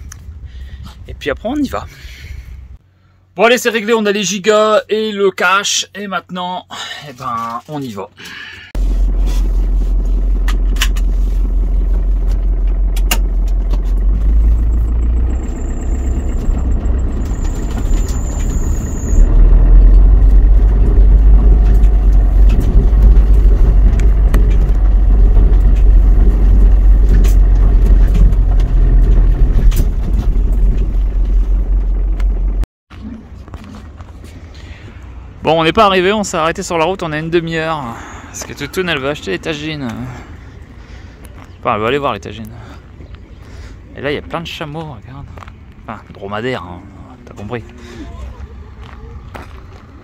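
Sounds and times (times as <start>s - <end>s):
vehicle engine and road rumble: 0.0s - 50.0s.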